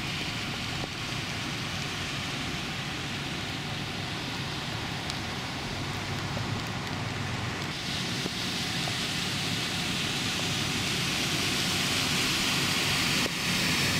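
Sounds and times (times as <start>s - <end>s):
vehicle driving through floodwater: 0.0s - 13.9s.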